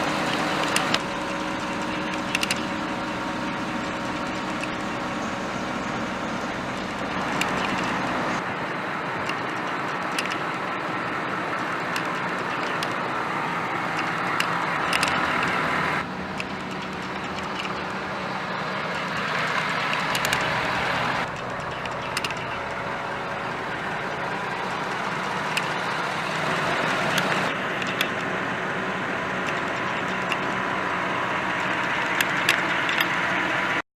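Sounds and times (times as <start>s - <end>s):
diesel truck engine running: 0.0s - 33.8s.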